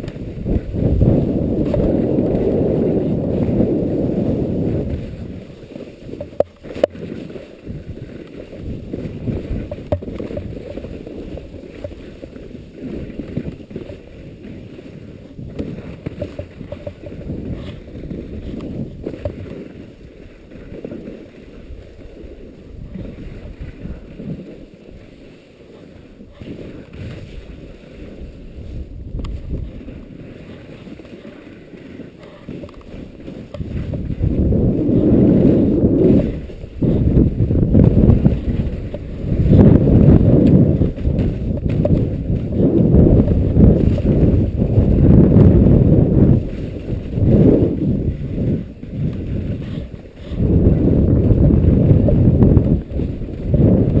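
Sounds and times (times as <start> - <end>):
wind buffeting microphone: 0.0 - 25.2, 26.0 - 54.0.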